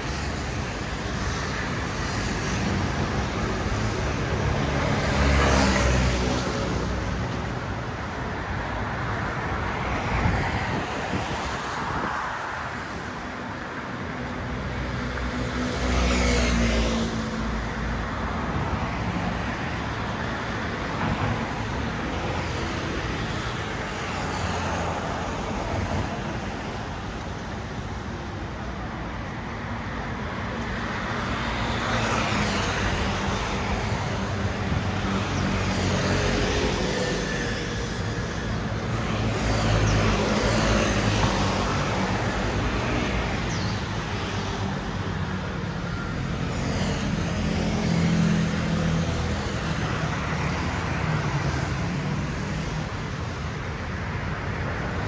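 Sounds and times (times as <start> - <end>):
car and scooter engines: 0.0 - 55.0.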